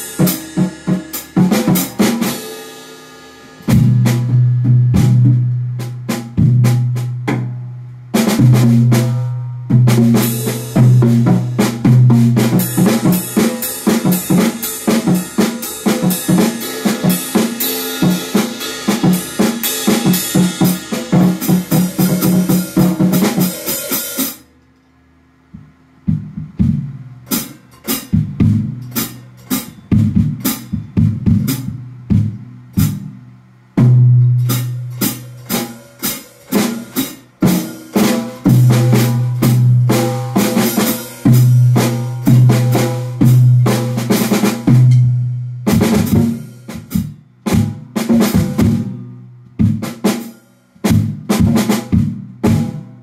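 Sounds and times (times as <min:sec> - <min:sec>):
drum kit playing: 0:00.0 - 0:24.6, 0:25.4 - 0:53.0.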